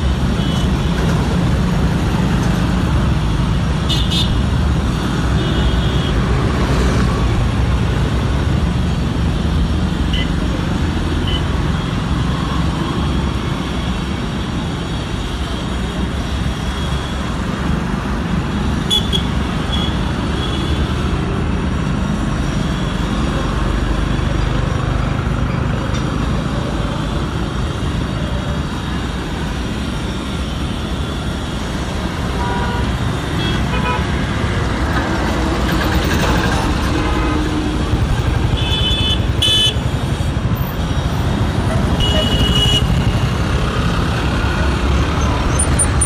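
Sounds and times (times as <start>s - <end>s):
street traffic rumble: 0.0s - 46.0s.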